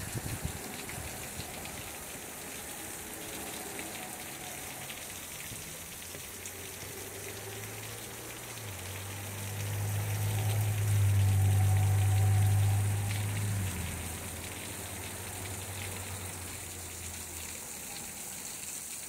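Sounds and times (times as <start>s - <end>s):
water trickling and dripping: 0.0s - 19.0s.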